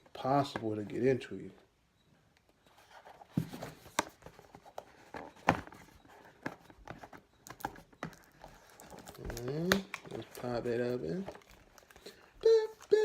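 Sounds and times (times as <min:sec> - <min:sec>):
plastic and cardboard rustling: 0:02.5 - 0:13.0.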